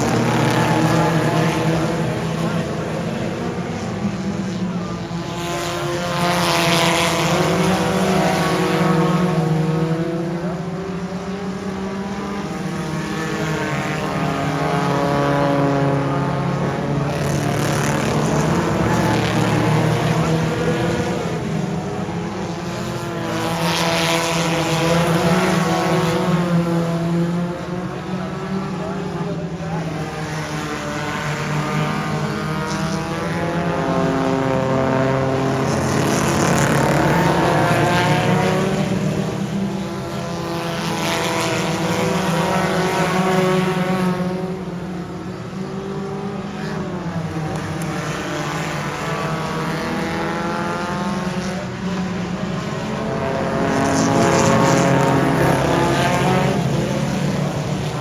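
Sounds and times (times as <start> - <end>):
race car engines passing: 0.0 - 58.0.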